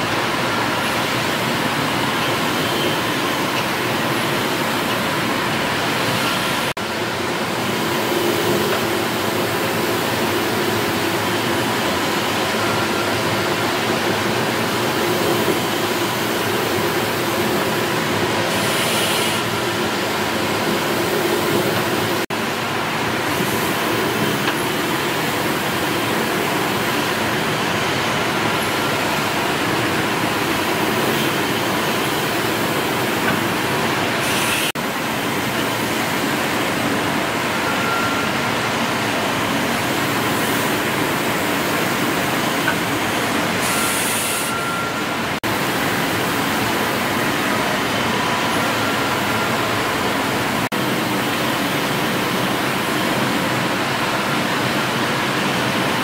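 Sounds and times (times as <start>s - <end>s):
steam engines hissing and rumbling: 0.0s - 56.0s.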